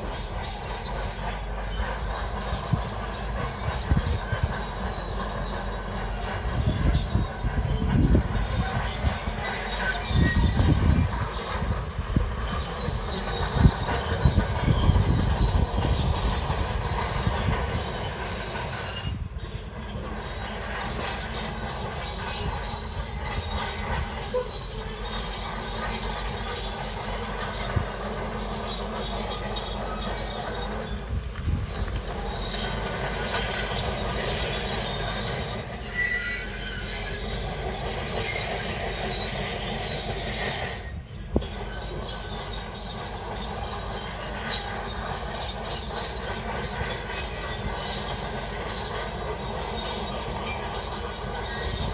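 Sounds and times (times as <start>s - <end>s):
bulldozer diesel engine running: 0.0s - 51.9s
steel tracks clanking and squealing: 0.0s - 51.9s.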